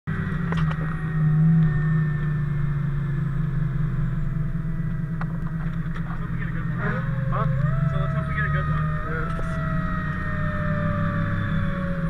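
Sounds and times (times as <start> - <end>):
diesel engine rumbling: 0.1 - 12.0.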